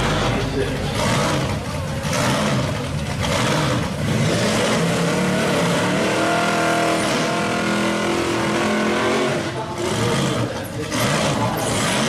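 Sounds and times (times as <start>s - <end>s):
engine revving up: 0.0s - 12.0s
race car engines running: 0.0s - 12.0s.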